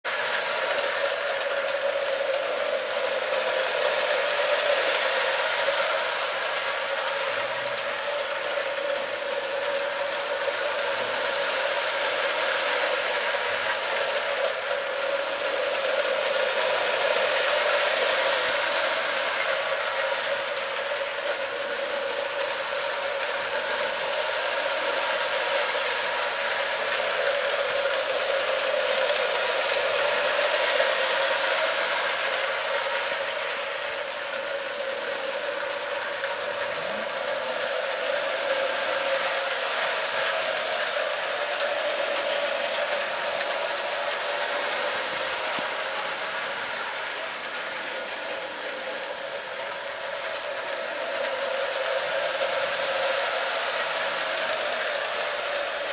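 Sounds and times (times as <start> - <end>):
toy train motor whirring: 0.0 - 55.9
wheels clattering on rails: 0.0 - 55.9.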